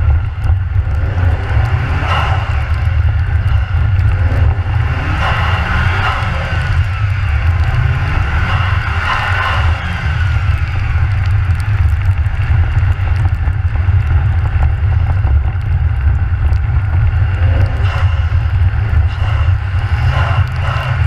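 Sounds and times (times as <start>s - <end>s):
car driving on ice rumble: 0.0s - 21.0s.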